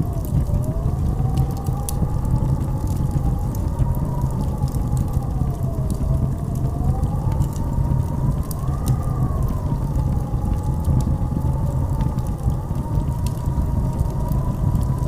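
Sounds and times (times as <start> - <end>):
blizzard wind howling: 0.0 - 15.0.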